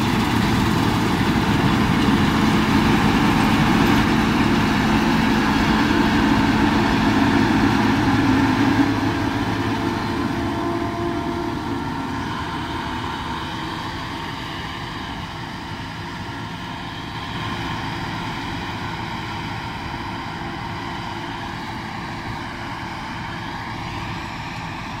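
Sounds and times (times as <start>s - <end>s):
combine harvester drone and whine: 0.0s - 25.0s.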